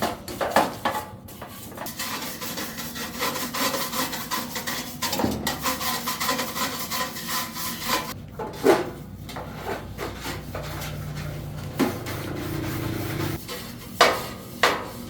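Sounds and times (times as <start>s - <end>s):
rapid scraping strokes: 1.4s - 15.0s.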